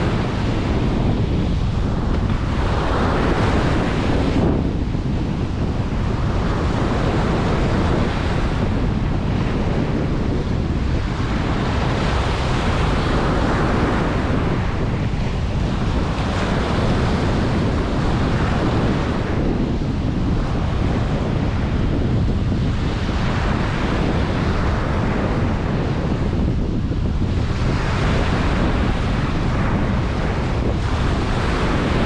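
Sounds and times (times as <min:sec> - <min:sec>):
ocean waves breaking on beach: 0:00.0 - 0:32.0
wind buffeting microphone: 0:00.0 - 0:32.0.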